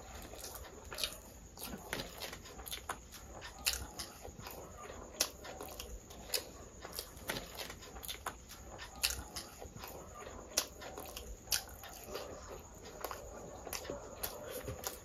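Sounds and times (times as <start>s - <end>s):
chewing and mouth smacks: 0.2s - 4.6s, 5.2s - 15.0s.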